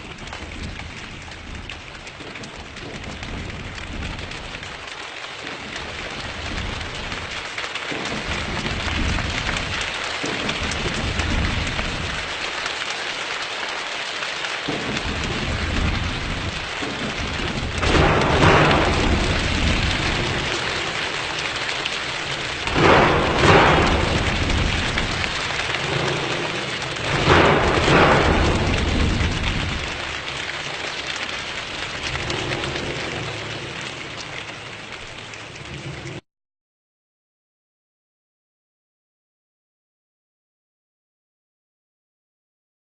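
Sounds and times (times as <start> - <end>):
heavy rain hissing: 0.0 - 36.2.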